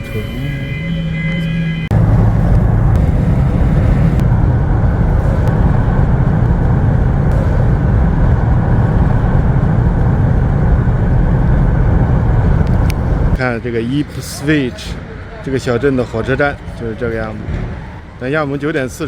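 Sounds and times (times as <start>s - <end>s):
vehicle engine and road rumble: 0.0s - 18.2s.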